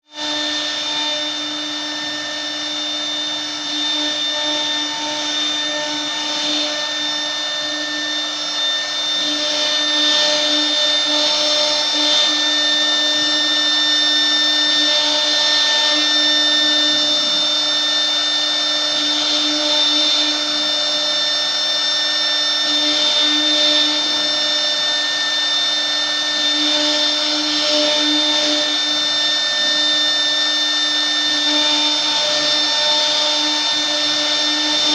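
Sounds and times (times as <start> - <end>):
router spindle whine: 0.0 - 34.9.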